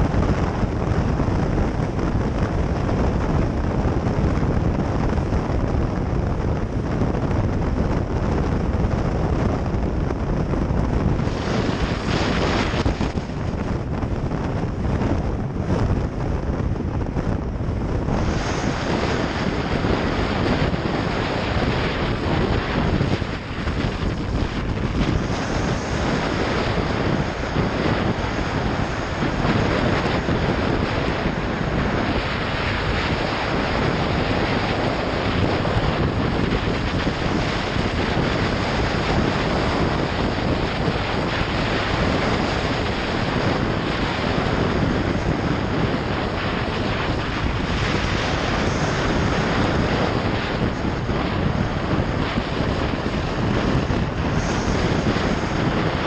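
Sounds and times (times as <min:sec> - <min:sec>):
road noise: 0:00.0 - 0:56.0
wind rush on microphone: 0:00.0 - 0:56.0.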